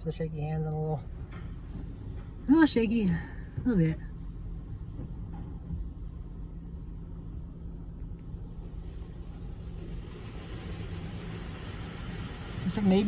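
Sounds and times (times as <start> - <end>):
car wash rumble: 0.0 - 13.0.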